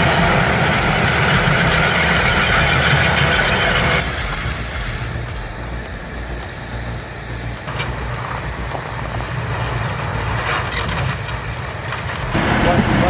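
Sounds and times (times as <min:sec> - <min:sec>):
heavy machine engine rumbling: 0:00.0 - 0:13.0.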